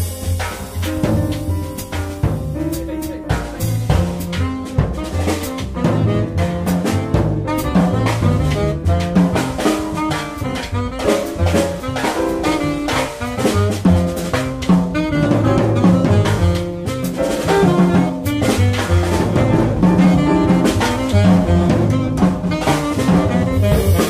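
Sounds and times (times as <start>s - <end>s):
bass: 0.0s - 24.0s
drum and cymbal strikes: 0.0s - 24.0s
piano: 0.0s - 24.0s
saxophone: 0.0s - 24.0s.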